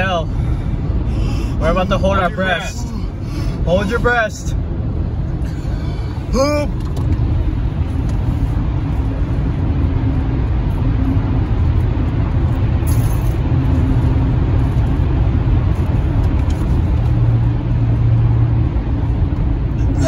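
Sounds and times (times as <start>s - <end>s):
car road and engine drone: 0.0s - 20.0s.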